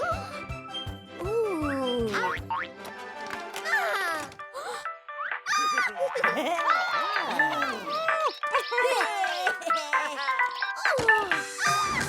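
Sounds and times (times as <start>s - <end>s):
playful cartoon music: 0.0s - 12.0s.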